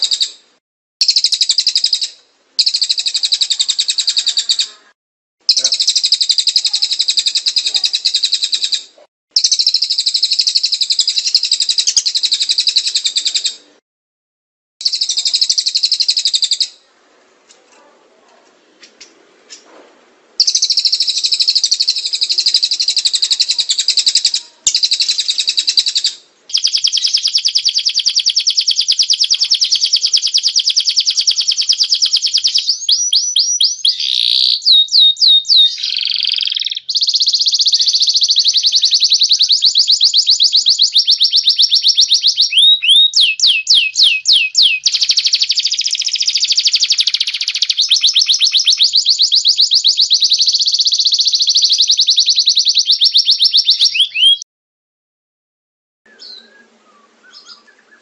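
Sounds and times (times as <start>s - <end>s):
songbird trilling: 1.0s - 4.8s, 5.5s - 13.6s, 14.8s - 16.9s, 20.4s - 54.4s, 56.1s - 58.0s.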